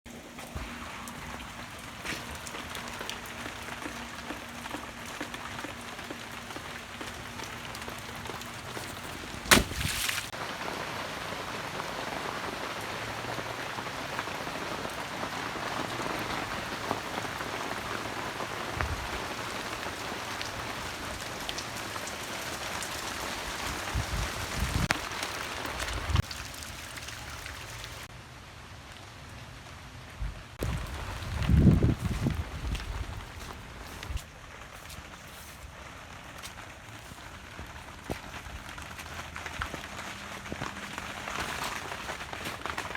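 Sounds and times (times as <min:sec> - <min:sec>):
rain pattering: 0:00.1 - 0:42.9.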